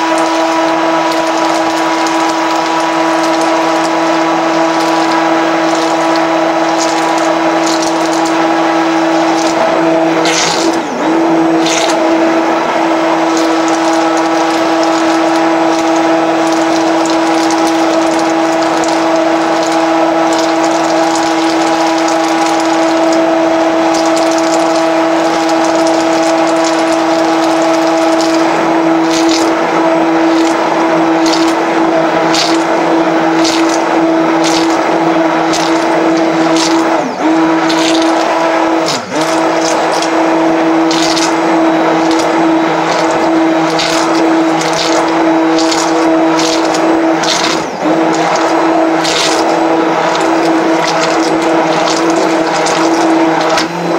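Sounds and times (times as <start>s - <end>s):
blade scraping plastic bowl: 0.0s - 53.9s
immersion blender whining: 0.0s - 53.9s.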